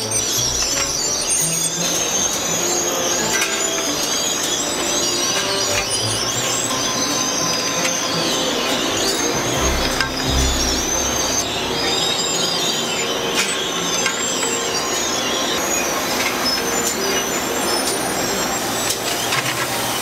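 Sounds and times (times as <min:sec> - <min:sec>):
high-pitched squeals: 0:00.0 - 0:20.0.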